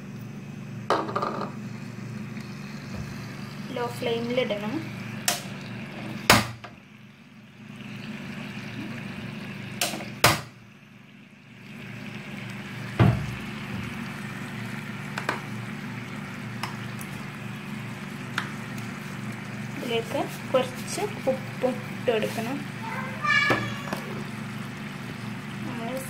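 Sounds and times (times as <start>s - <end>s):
syrup bubbling and sizzling: 0.0s - 26.0s.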